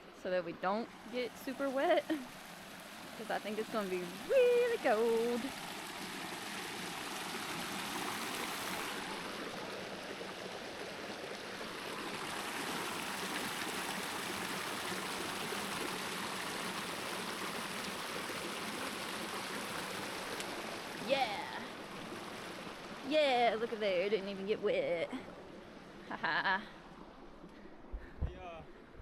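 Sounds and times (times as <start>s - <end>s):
creek running over rocks: 0.0s - 28.0s.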